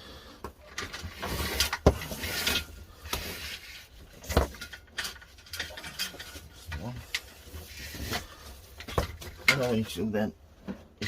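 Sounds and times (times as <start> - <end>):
rustling and handling noise: 0.4 - 11.0.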